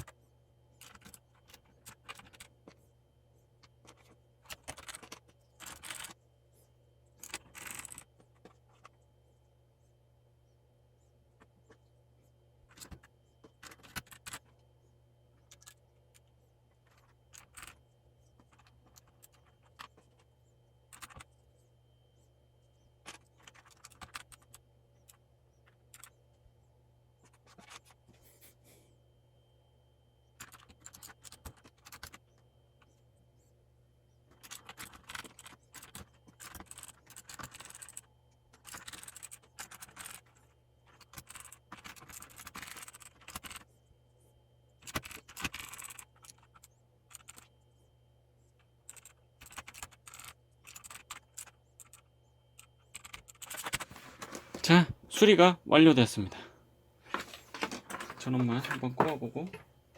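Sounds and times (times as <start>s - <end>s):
keyboard parts clicking and scraping: 0.0s - 9.5s, 11.0s - 26.4s, 27.2s - 28.6s, 30.2s - 43.9s, 44.7s - 55.3s, 57.0s - 59.7s.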